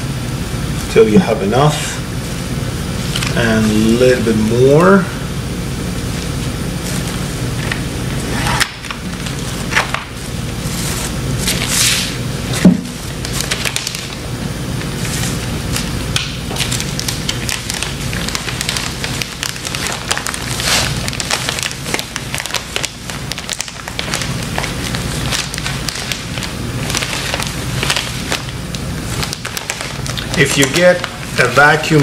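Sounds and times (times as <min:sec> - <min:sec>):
plastic bag crackling: 0:06.0 - 0:32.0.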